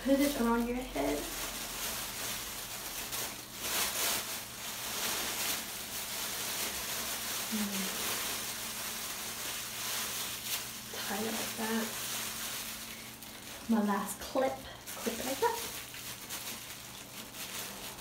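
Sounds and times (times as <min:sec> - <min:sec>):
plastic shower cap crinkling: 0:00.0 - 0:18.0.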